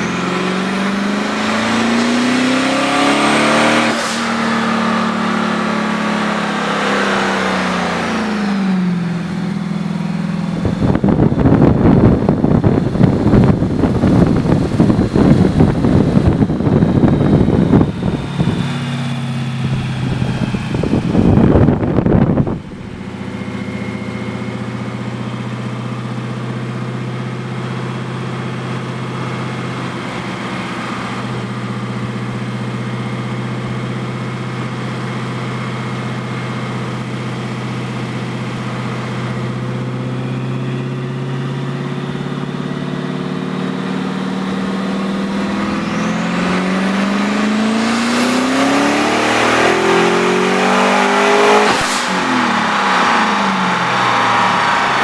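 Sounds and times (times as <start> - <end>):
car engine revving on a dyno: 0.0 - 55.0
high turbo whine: 0.0 - 55.0.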